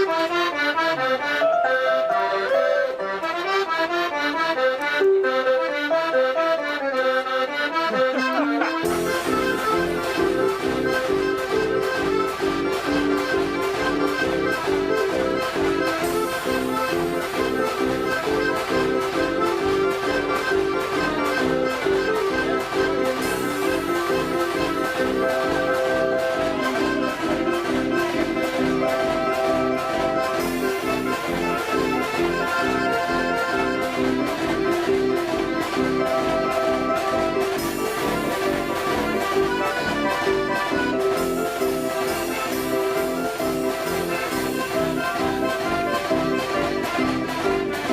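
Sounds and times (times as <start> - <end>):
reedy dance organ chords: 0.0 - 47.9
percussion beats: 7.7 - 47.9.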